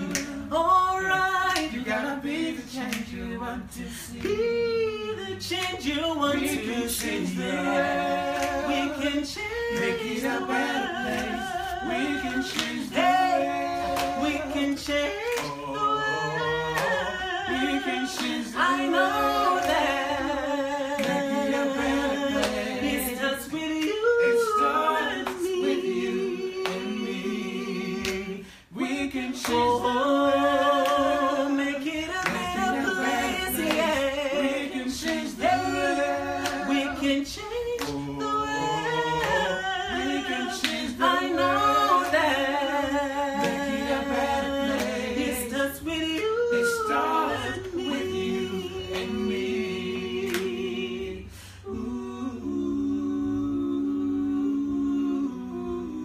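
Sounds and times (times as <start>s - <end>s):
group singing a cappella: 0.0s - 56.0s.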